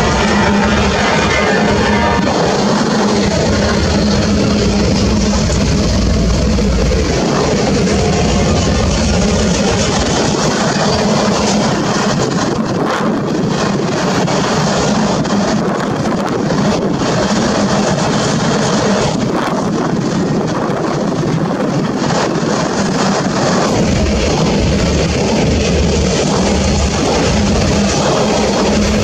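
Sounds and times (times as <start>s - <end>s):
train clanks: 0.0s - 29.0s
train wheels rolling on rails: 0.0s - 29.0s.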